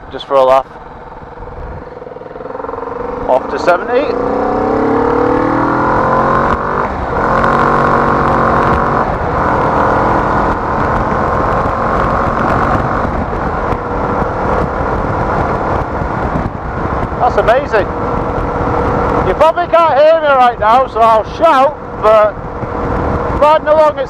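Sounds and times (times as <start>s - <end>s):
heavy wind rush: 0.0s - 24.0s
motorcycle engine accelerating: 0.0s - 24.0s.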